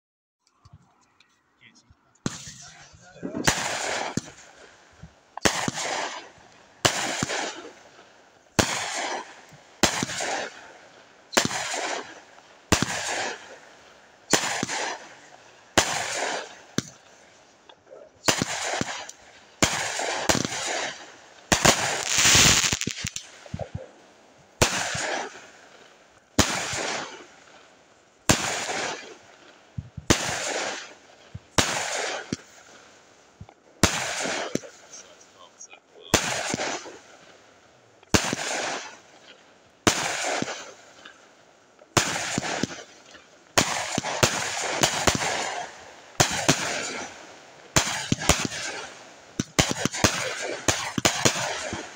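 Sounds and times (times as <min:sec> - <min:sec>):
firework bangs: 0:02.1 - 0:51.9.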